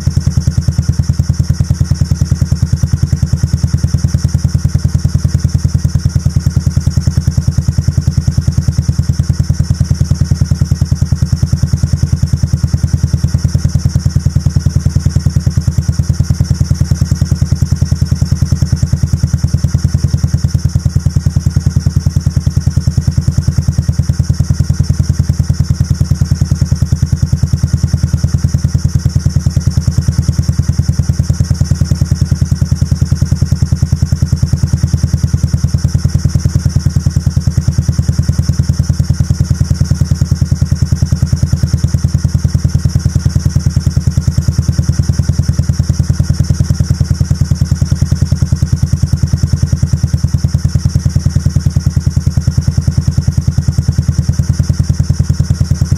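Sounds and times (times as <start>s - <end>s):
scooter engine idling: 0.0s - 55.9s.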